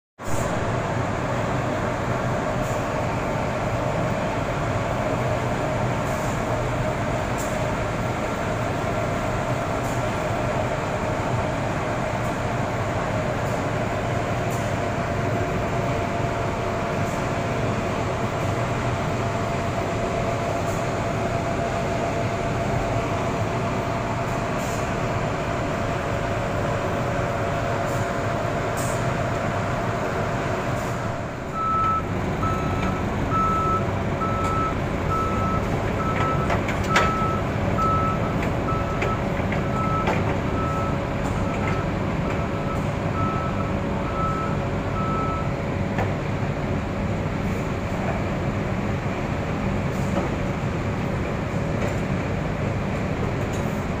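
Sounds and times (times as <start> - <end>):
heavy machinery drone with whine: 0.2 - 54.0.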